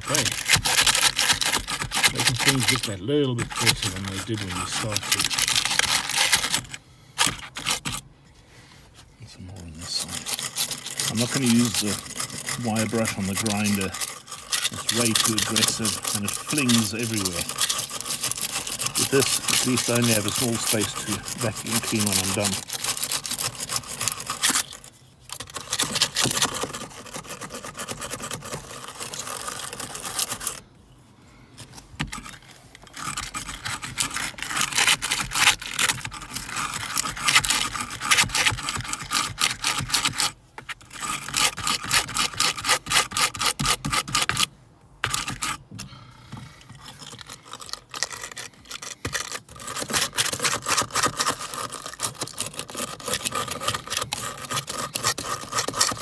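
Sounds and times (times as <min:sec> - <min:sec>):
wire brush scrubbing metal: 0:00.0 - 0:08.0, 0:09.3 - 0:30.6, 0:32.1 - 0:45.6, 0:46.6 - 0:56.0.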